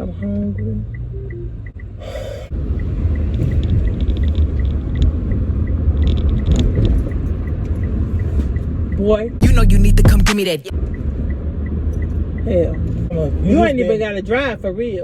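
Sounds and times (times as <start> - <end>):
turn signal ticking: 0.0 - 14.8
car road and engine rumble: 0.0 - 15.0.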